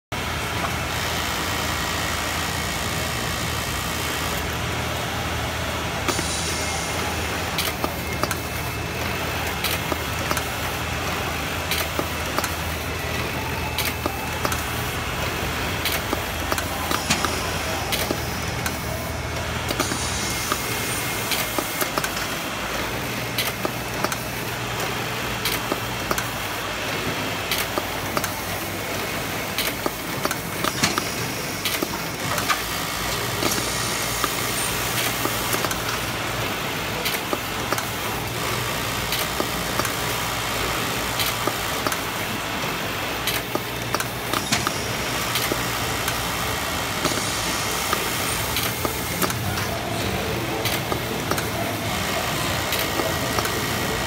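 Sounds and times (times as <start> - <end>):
sewing machine hum: 0.2 - 54.0
mechanism clicks and clacks: 6.0 - 54.0.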